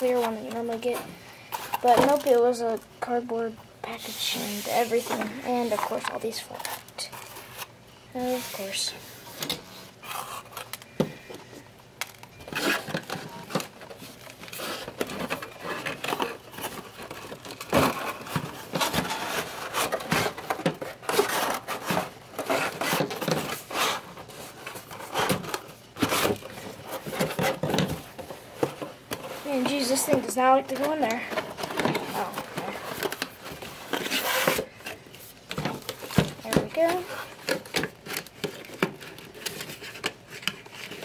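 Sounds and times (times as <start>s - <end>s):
cardboard rustling: 0.0s - 41.0s.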